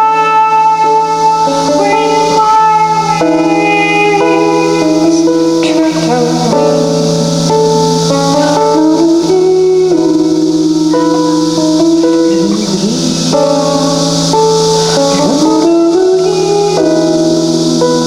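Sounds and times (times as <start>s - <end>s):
guitar accompaniment: 0.0s - 18.0s
melody of held notes: 0.0s - 18.0s.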